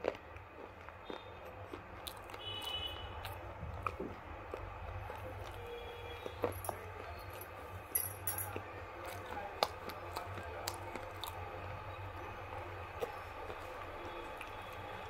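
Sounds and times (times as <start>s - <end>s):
wet chewing clicks: 0.0s - 6.8s, 9.0s - 15.0s.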